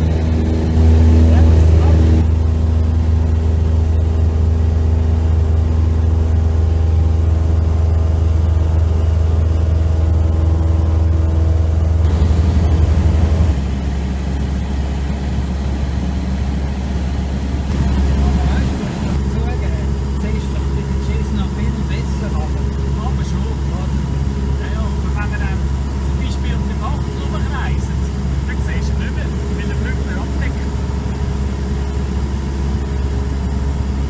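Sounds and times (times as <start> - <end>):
light aircraft engine droning: 0.0 - 34.0.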